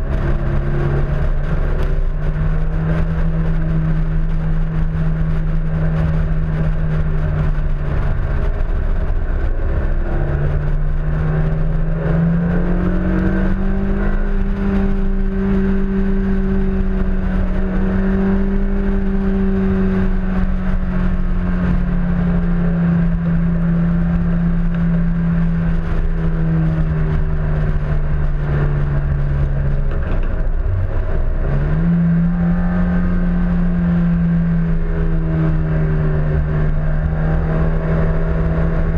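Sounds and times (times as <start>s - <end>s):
car engine running hard: 0.0s - 38.9s
wind and road noise: 0.0s - 38.9s.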